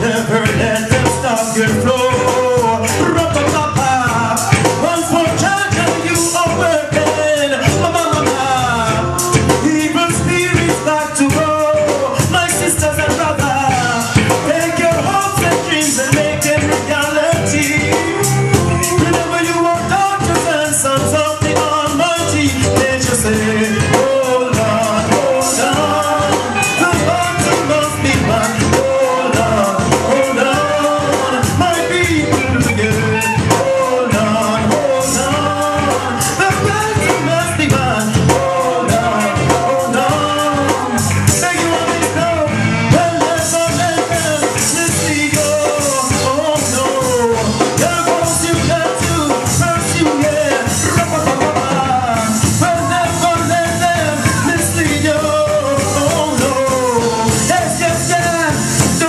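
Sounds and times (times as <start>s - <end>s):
live reggae band playing: 0.0s - 59.0s
person singing: 0.0s - 59.0s.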